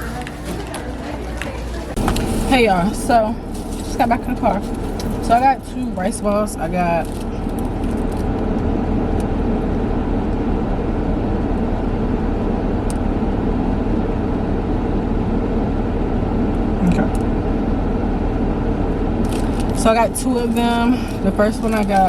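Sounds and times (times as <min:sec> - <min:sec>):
car cabin running noise: 0:00.0 - 0:22.0.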